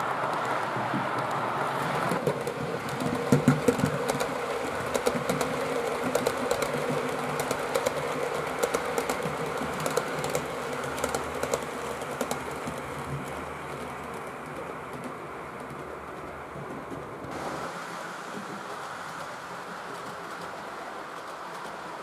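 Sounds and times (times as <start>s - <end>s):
model train running hum: 0.0s - 22.0s
model train wheels clicking over rail joints: 0.0s - 22.0s.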